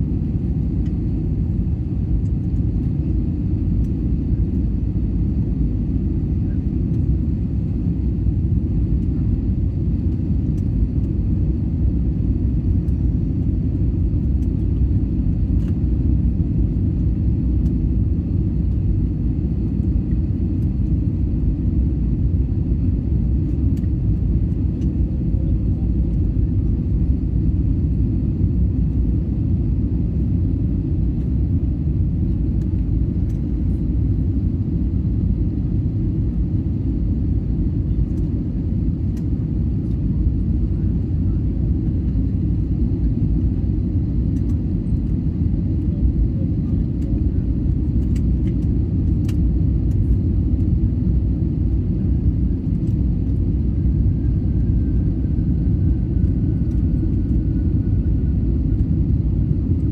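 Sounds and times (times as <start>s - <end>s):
airliner engine rumble in cabin: 0.0s - 59.9s.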